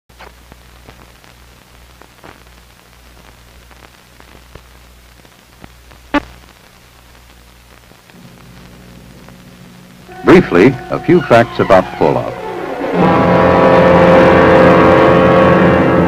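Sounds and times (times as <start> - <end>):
film soundtrack crackle and clicks: 0.1 - 16.0
steady low hum: 0.2 - 16.0.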